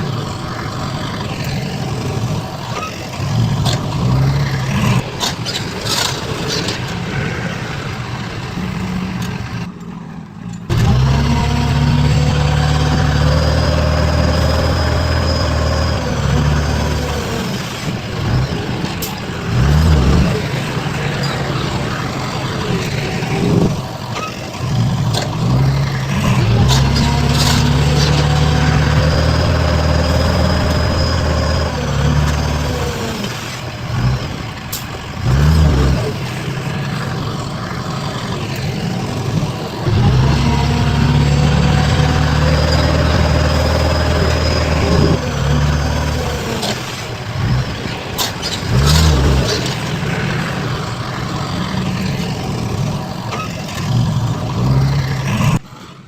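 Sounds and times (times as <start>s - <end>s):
heavy diesel engine revving: 0.0s - 56.0s.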